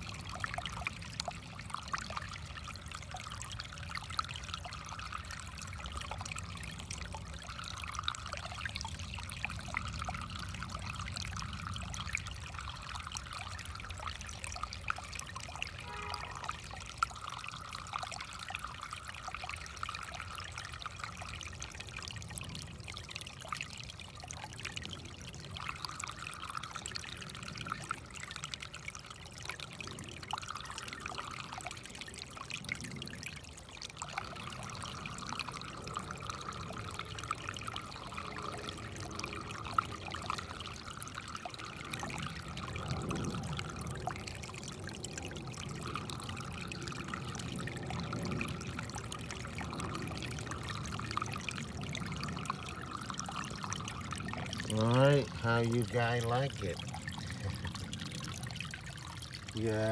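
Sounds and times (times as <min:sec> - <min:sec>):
creek trickling over rocks: 0:00.0 - 0:59.9.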